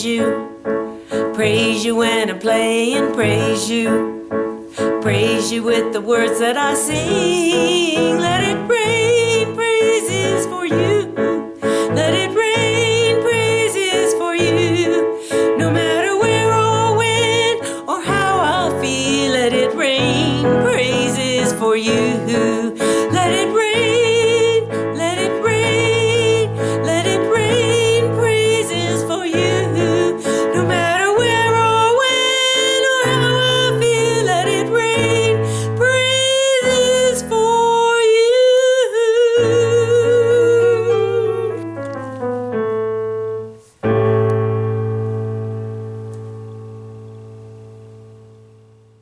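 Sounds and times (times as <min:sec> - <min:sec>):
keyboard accompaniment: 0:00.0 - 0:49.0.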